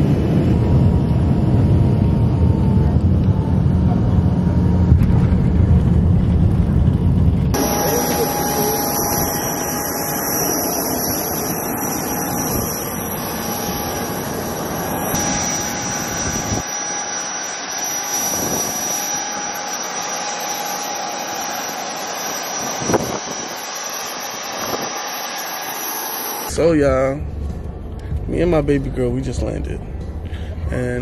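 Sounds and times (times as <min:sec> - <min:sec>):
jet engines running: 0:00.0 - 0:26.6
high engine whine: 0:00.0 - 0:31.0.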